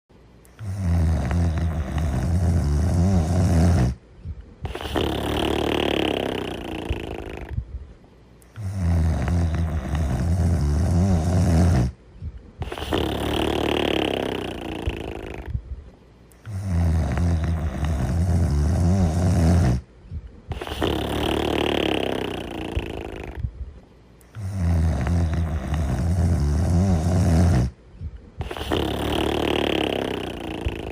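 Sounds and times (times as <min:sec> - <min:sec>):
person snoring: 0:00.5 - 0:04.0, 0:04.6 - 0:07.6, 0:08.5 - 0:12.0, 0:12.6 - 0:15.6, 0:16.4 - 0:19.9, 0:20.5 - 0:23.5, 0:24.3 - 0:27.8, 0:28.4 - 0:30.9.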